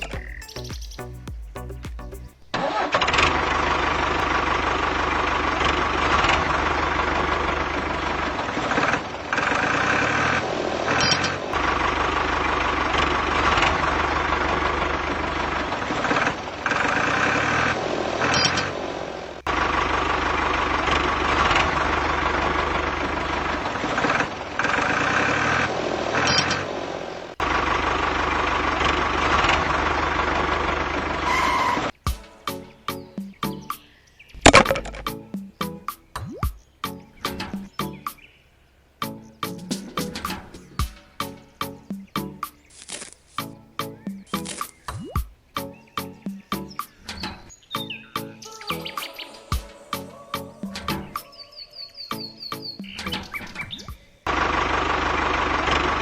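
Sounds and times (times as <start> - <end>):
tractor engine running: 0.0 - 32.1, 34.4 - 38.3, 38.9 - 47.5, 52.6 - 56.0.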